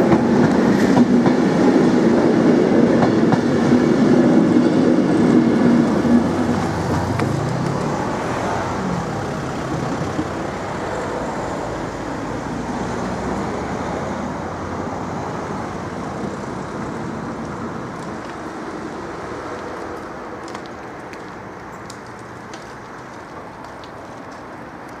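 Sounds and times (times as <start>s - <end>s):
passing traffic rumble: 0.0s - 25.0s.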